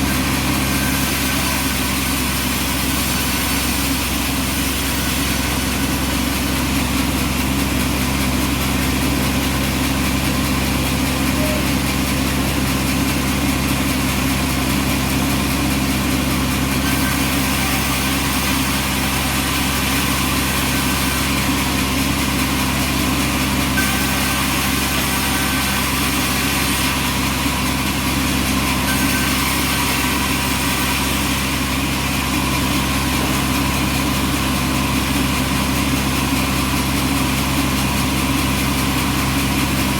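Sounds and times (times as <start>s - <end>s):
sawmill engine running steadily: 0.0s - 39.9s.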